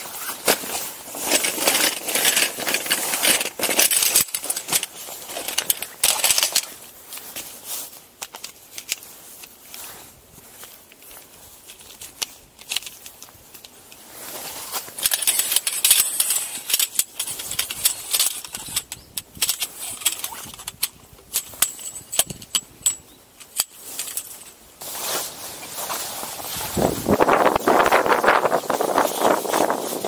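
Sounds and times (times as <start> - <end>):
tent fabric rustling: 0.0 - 22.1, 23.1 - 30.0.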